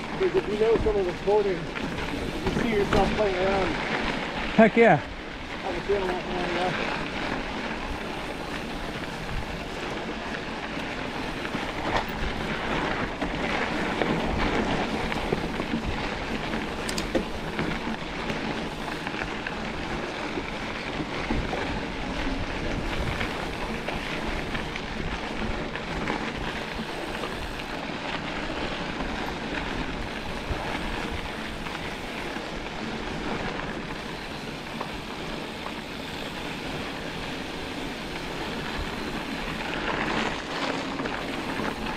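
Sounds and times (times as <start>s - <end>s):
bike clicks and knocks: 0.0s - 4.2s, 7.9s - 41.9s
tyres crunching over gravel: 0.0s - 41.9s
wind rush on microphone: 0.0s - 41.9s.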